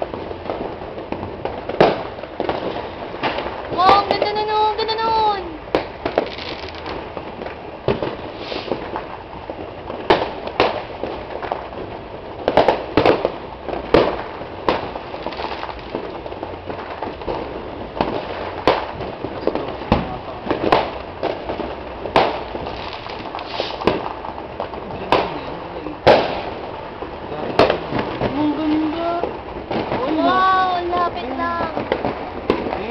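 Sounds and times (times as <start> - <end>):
fireworks bangs and pops: 0.0 - 32.9
fireworks crackling: 0.0 - 32.9.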